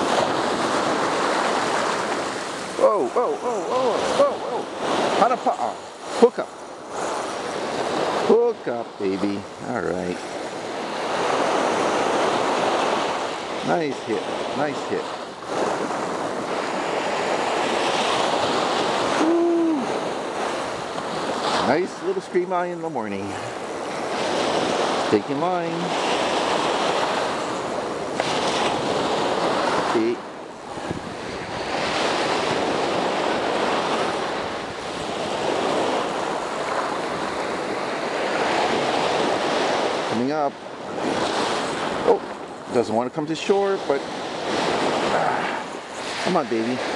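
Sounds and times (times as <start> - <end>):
wind on microphone: 0.0 - 8.4, 9.0 - 22.0, 25.8 - 42.8
small surf breaking on sand: 0.0 - 46.9.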